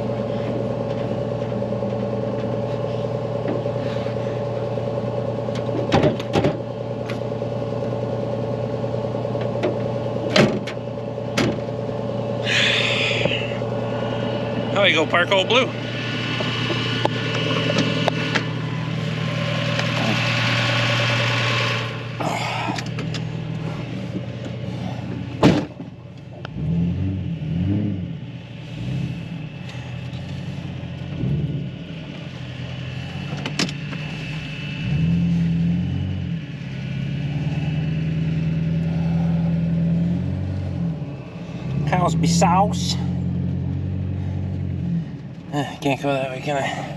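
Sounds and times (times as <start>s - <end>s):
tractor engine revving: 0.0s - 46.9s.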